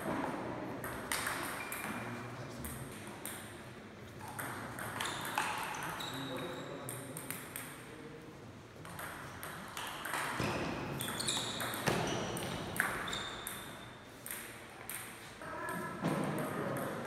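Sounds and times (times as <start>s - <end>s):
table tennis ball hitting bats and table: 0.0s - 3.6s, 4.2s - 6.0s, 6.9s - 7.9s, 8.8s - 17.0s.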